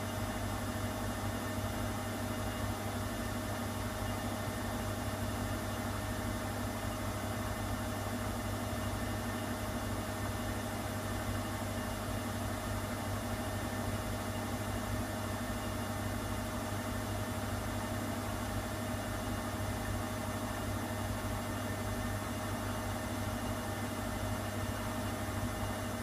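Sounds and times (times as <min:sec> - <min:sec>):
washing machine humming: 0:00.0 - 0:26.0.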